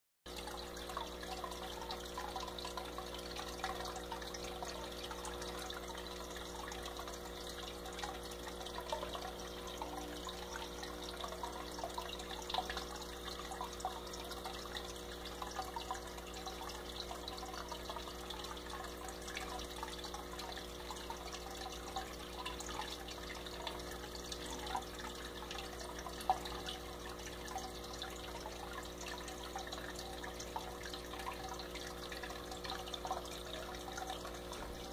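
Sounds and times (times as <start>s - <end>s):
faint water drips: 0.3s - 34.9s
water trickling and splashing: 0.3s - 34.9s.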